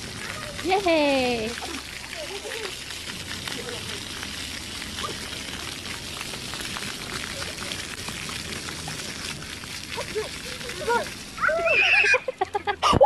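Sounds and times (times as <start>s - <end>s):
fountain jets splashing on tiles: 0.0s - 13.0s.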